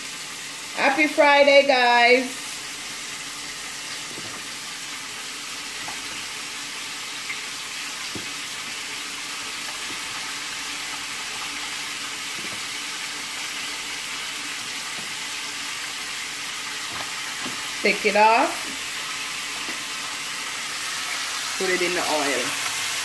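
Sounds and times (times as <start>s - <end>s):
chicken deep-frying in oil: 0.0s - 23.0s.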